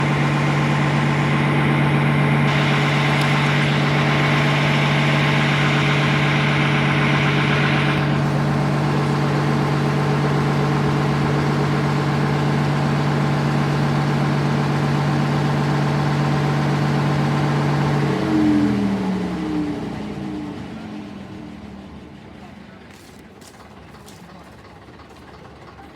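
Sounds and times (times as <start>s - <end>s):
bus diesel engine idling: 0.0s - 25.9s.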